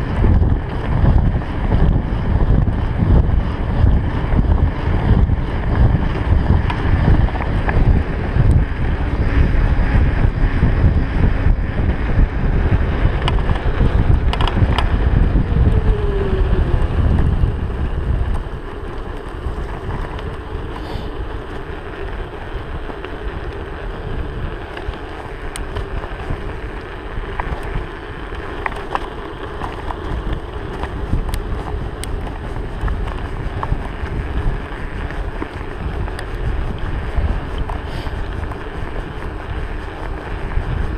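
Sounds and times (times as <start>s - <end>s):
bike rattles: 0.0s - 40.9s
bike tyre rumble: 0.0s - 40.9s
wind buffeting microphone: 0.0s - 40.9s.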